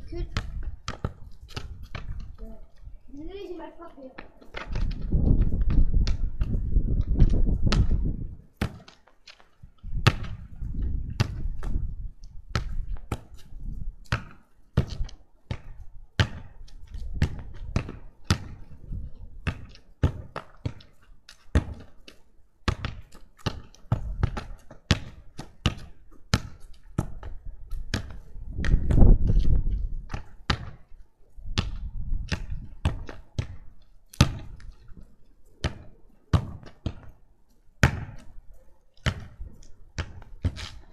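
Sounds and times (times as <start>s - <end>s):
ball bouncing on ground: 0.1s - 2.6s, 3.9s - 37.2s, 37.8s - 38.4s, 39.0s - 40.9s.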